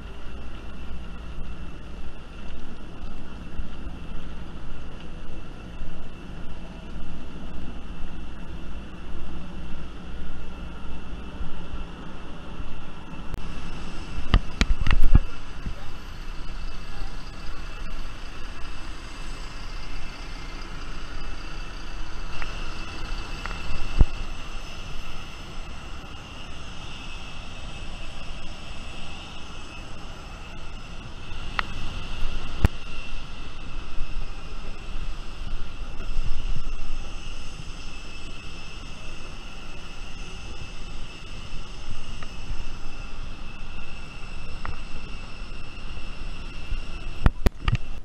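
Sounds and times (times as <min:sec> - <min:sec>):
jet airliner whine: 0:00.0 - 0:48.0.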